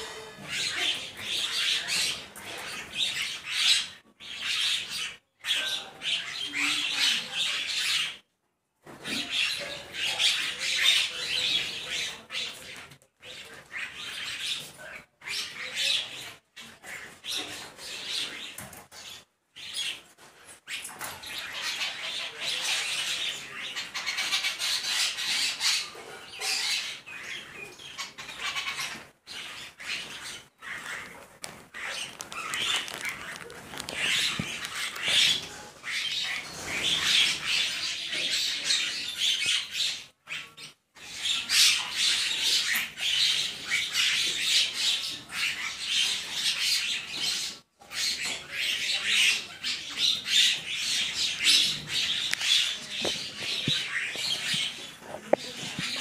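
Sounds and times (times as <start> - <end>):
flock of birds chattering: 0.0 - 8.2, 8.8 - 56.0.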